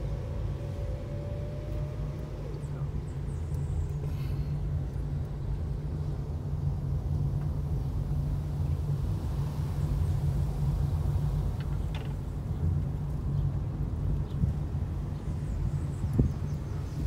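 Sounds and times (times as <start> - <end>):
car engine rumble: 0.0 - 17.0
tyres on road: 0.0 - 17.0.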